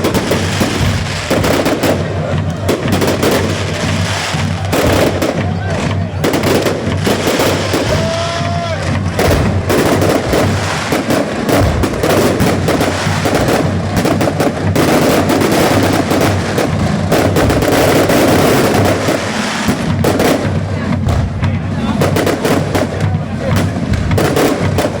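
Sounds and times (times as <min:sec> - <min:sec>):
music playing: 0:00.0 - 0:24.9
fireworks bangs and crackles: 0:00.0 - 0:25.0.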